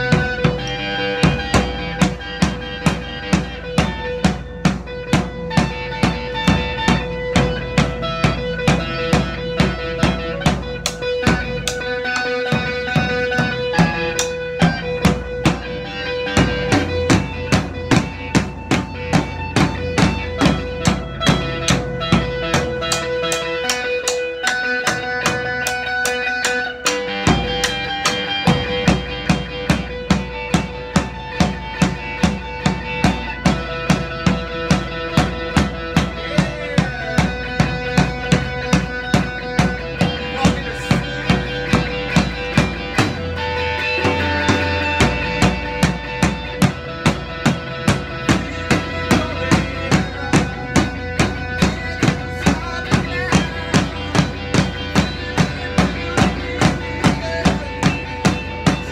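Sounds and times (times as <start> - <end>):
electric guitar held notes: 0.0 - 58.9
rock drum beat: 0.0 - 58.9.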